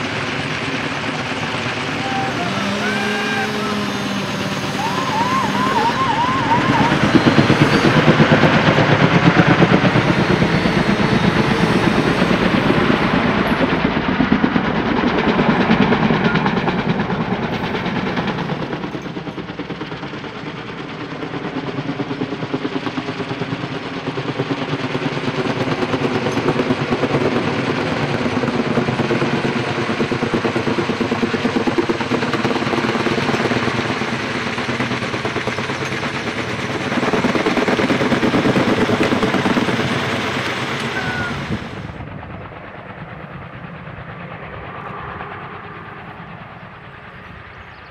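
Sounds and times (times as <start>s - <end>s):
helicopter engine whine: 0.0s - 47.9s
helicopter rotor chopping: 0.0s - 47.9s.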